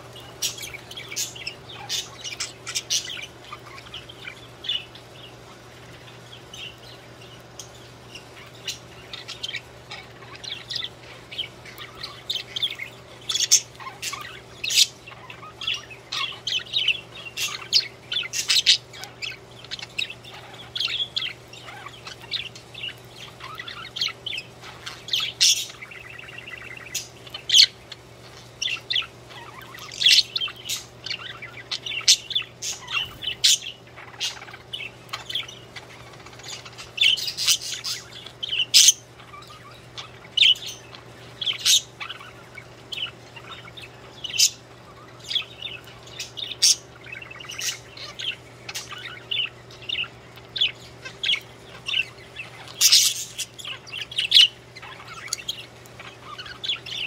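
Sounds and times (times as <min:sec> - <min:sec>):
budgerigars chirping and warbling: 0:00.0 - 0:57.0
faint steady hum: 0:00.0 - 0:57.0.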